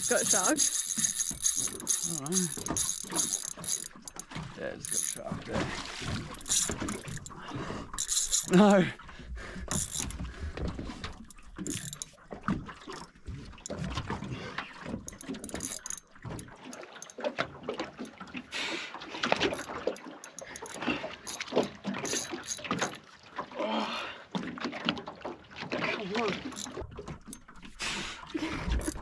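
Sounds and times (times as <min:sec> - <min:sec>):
water sloshing around boat: 0:00.0 - 0:29.0.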